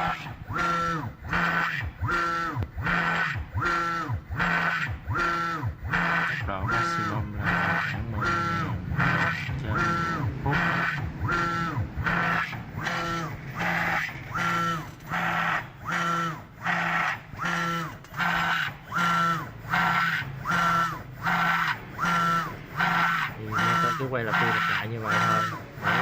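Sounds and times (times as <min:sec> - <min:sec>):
servo motor whine: 0:00.0 - 0:26.0
steady motor hum: 0:00.0 - 0:26.0.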